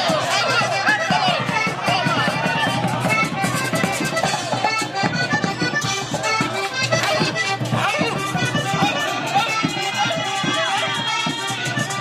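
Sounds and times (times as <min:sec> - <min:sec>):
accordion-led folk music: 0:00.0 - 0:12.0
steady percussion beat: 0:00.0 - 0:12.0.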